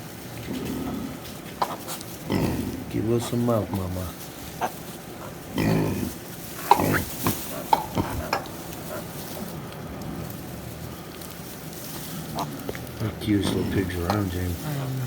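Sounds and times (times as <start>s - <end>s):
rustle of stirred hay: 0.0s - 15.0s
pigs grunting and squeaking: 0.4s - 15.0s.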